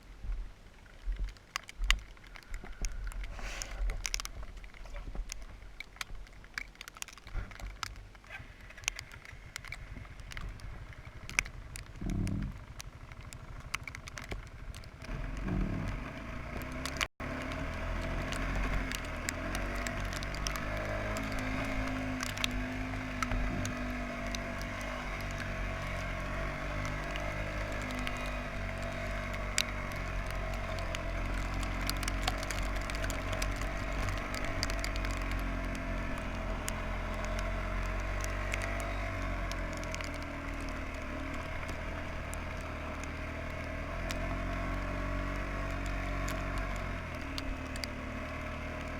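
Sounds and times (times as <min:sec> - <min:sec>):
small clicks and crackles: 0:00.0 - 0:48.9
atv engine running: 0:00.8 - 0:48.9.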